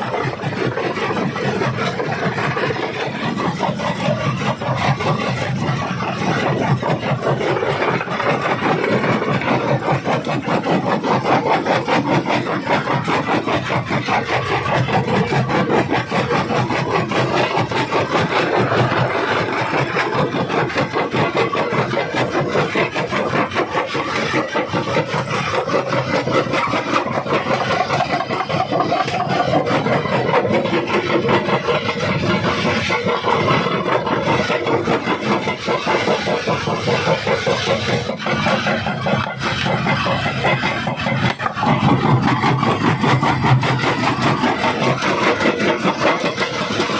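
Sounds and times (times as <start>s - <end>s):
machine drone: 0.0s - 46.9s.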